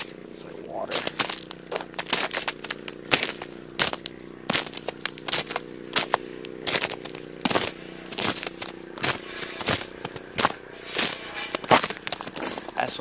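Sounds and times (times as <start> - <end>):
footsteps crunching on frozen snow: 0.0 - 13.0
steady low hum: 0.0 - 13.0.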